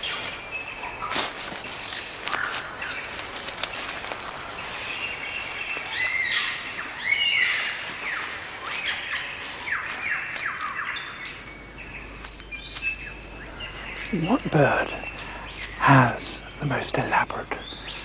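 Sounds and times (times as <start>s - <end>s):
birds whistling and chirping: 0.0s - 16.6s
downward-sweeping bird calls: 0.0s - 18.0s.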